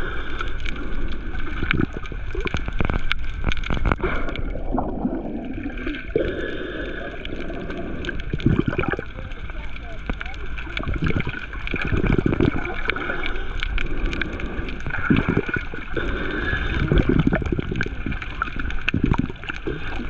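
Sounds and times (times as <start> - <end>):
water sloshing and gurgling: 0.0 - 20.0.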